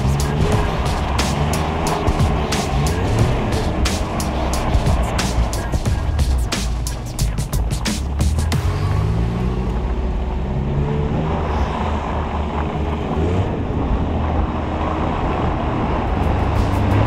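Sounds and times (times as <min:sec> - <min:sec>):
car engine revving: 0:00.0 - 0:17.0
steady rush of noise: 0:00.0 - 0:17.0.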